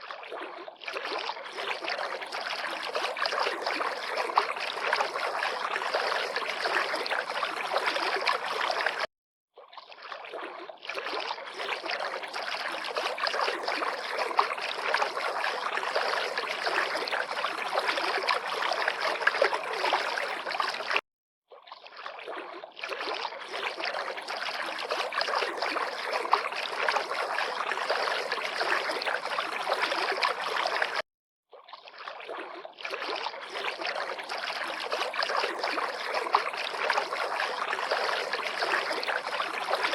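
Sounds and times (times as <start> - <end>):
river water lapping and splashing: 0.0 - 39.9.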